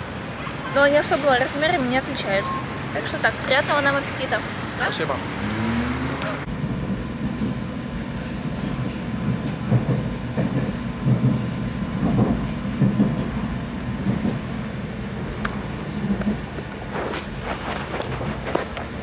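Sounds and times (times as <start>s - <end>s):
train rumble inside carriage: 0.0s - 19.0s.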